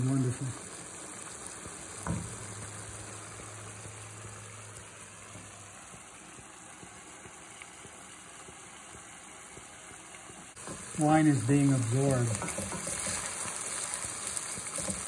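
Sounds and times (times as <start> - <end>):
soft bubbling simmer in a pan: 0.0 - 15.0.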